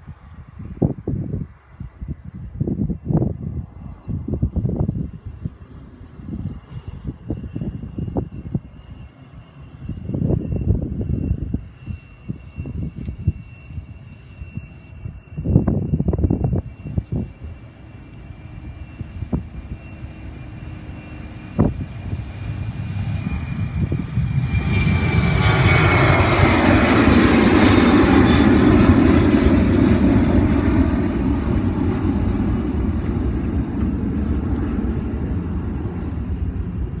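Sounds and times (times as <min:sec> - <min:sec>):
jet engines passing: 0:00.0 - 0:37.0.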